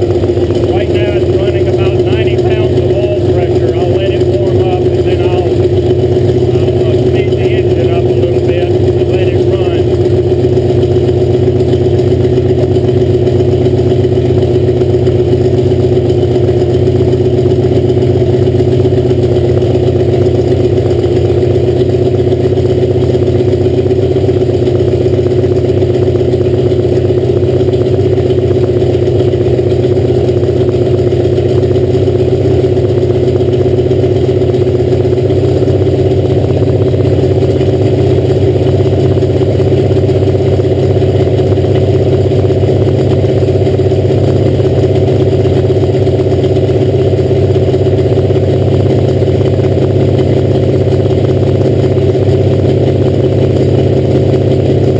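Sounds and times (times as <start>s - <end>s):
race engine running: 0.0s - 54.9s.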